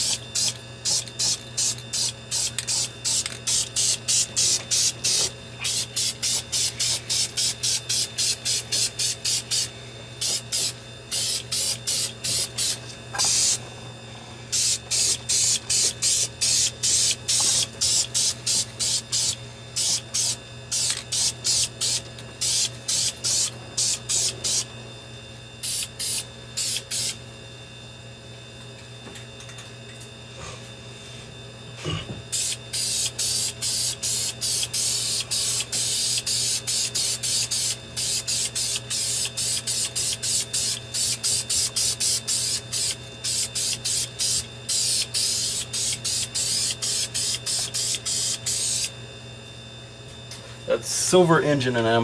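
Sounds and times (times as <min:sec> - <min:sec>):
aerosol spray can bursts: 0:00.0 - 0:13.6, 0:14.6 - 0:24.6, 0:25.6 - 0:27.2, 0:32.4 - 0:48.9
steady low hum: 0:00.0 - 0:28.3, 0:30.3 - 0:52.0.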